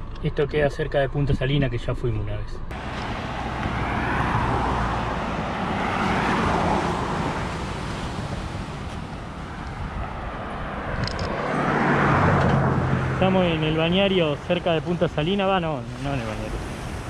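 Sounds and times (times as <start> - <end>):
cars passing on road: 2.7 - 17.0.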